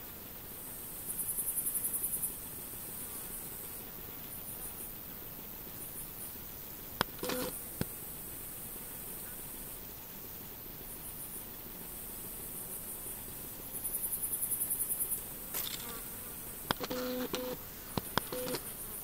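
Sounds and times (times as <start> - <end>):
bush cricket stridulation: 0.0 - 19.0
high hiss of insects: 0.0 - 19.0.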